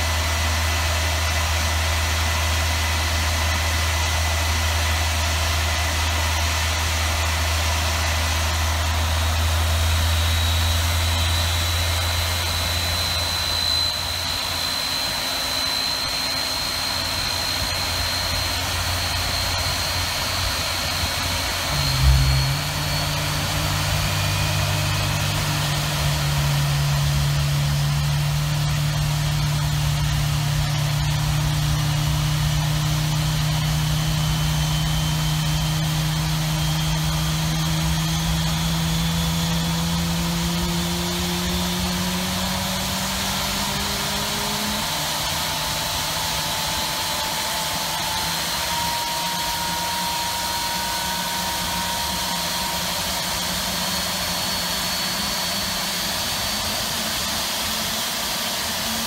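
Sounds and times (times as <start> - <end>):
jet engine spooling up: 0.0 - 59.0.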